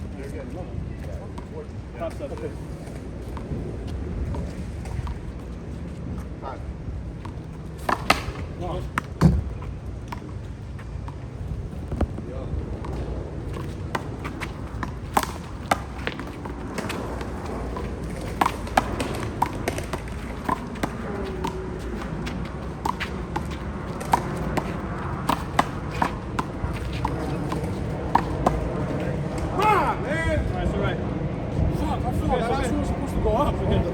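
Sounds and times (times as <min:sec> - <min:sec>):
outdoor background noise: 0:00.0 - 0:33.9.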